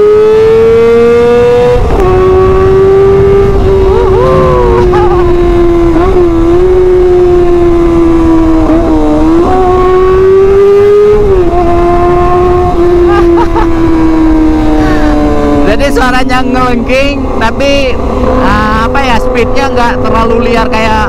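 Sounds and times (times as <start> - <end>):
motorcycle engine running shrill: 0.0 - 21.0.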